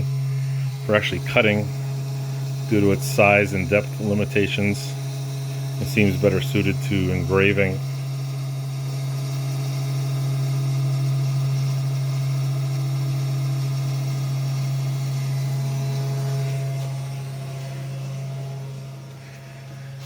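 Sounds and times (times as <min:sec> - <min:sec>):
faint high machine tones: 0:00.0 - 0:20.0
router spindle motor humming: 0:00.0 - 0:20.0.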